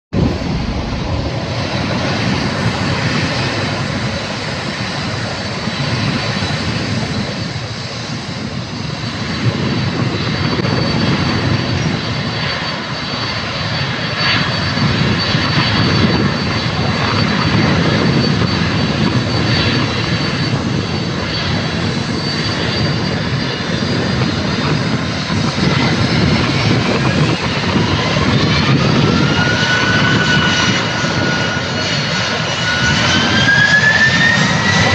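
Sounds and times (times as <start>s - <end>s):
high jet engine whine: 0.1s - 34.9s
jet engines rumbling: 0.1s - 34.9s.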